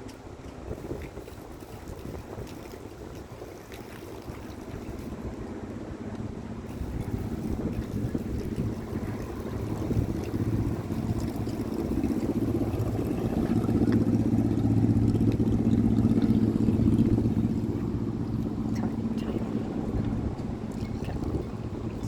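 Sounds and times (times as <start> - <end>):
boat engine droning: 0.0 - 22.0
wind buffeting microphone: 0.0 - 22.0.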